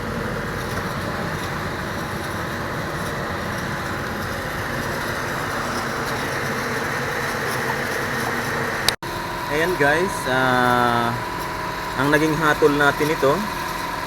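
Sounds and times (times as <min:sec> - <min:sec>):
mechanical running noise: 0:00.0 - 0:14.0.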